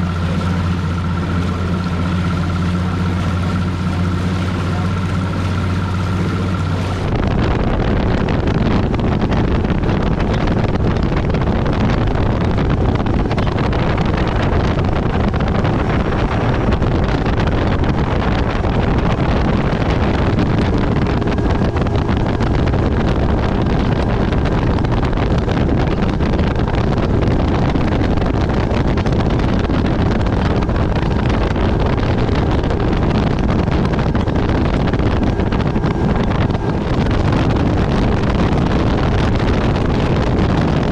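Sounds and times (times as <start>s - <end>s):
outboard motor drone: 0.0s - 40.9s
wind buffeting microphone: 0.0s - 40.9s.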